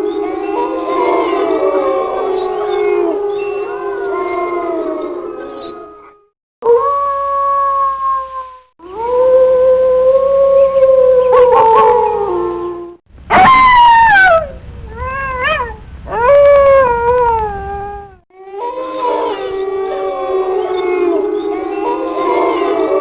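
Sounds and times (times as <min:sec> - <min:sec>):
wolves howling: 0:00.0 - 0:23.0.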